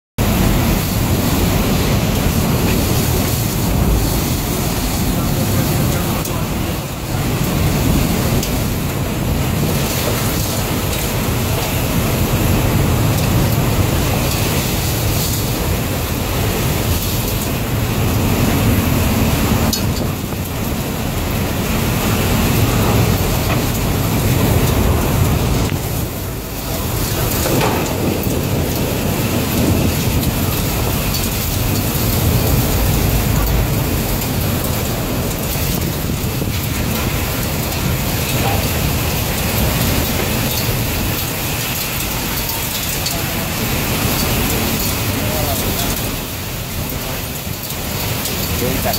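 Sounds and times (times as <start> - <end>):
heavy rain hiss: 0.2 - 48.9
rough sea: 0.2 - 48.9
storm wind roaring: 0.2 - 48.9
wind buffeting microphone: 0.2 - 48.9.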